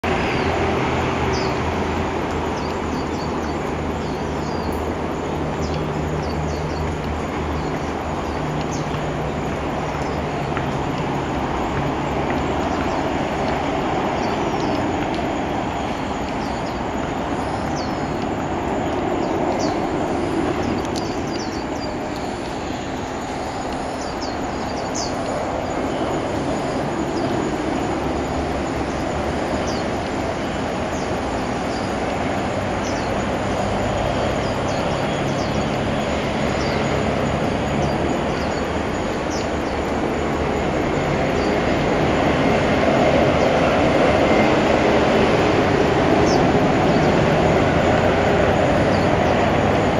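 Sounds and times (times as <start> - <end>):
outdoor background rumble: 0.0 - 49.9.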